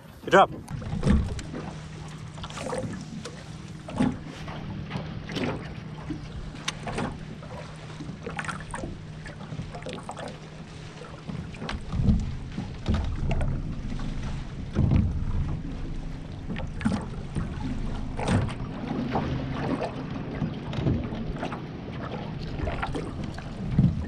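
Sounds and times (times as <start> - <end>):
boat motor humming: 0.0 - 24.0
water slapping against hull: 0.0 - 24.0
wind rumble on microphone: 0.0 - 24.0.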